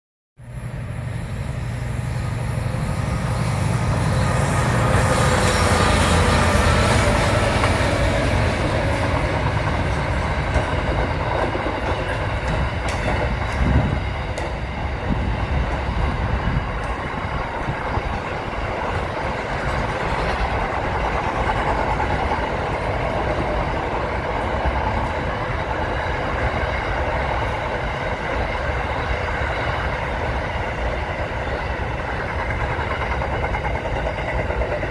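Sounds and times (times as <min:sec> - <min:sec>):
diesel locomotive engines humming: 0:00.4 - 0:34.9
train wagons rumbling and clattering: 0:01.7 - 0:34.9.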